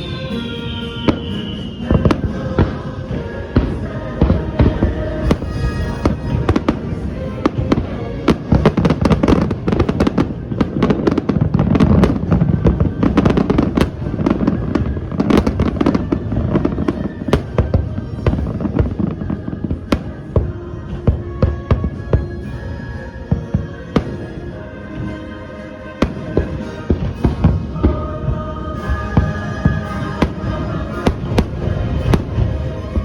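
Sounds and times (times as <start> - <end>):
fireworks bangs and crackling: 0.0 - 33.0
music playing: 0.0 - 33.0.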